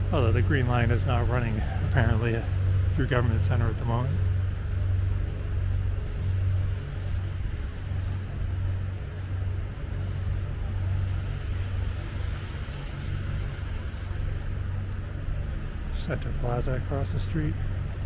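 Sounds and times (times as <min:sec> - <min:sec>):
low hum of city traffic: 0:00.0 - 0:18.0.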